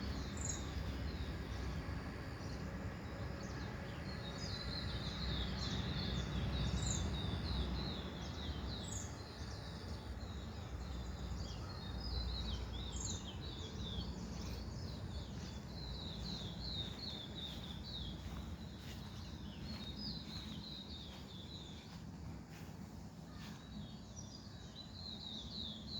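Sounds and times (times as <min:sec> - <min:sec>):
low background rumble: 0:00.0 - 0:25.6
small birds chirping: 0:00.0 - 0:25.9.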